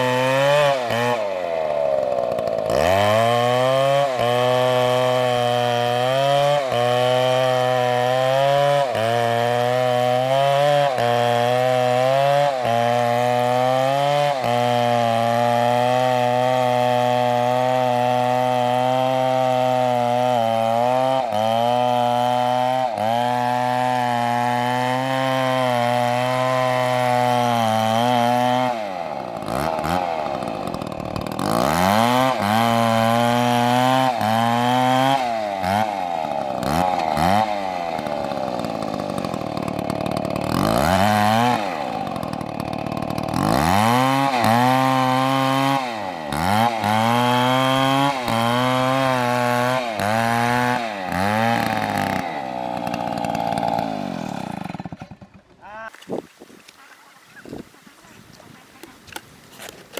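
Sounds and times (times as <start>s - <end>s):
chainsaw cutting wood: 0.0s - 56.8s, 58.2s - 59.9s.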